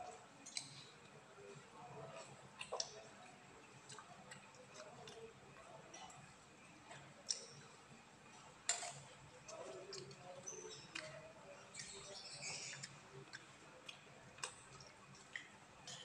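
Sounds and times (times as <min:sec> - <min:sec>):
wet chewing and lip-smacking: 0:00.2 - 0:06.3, 0:06.9 - 0:16.0.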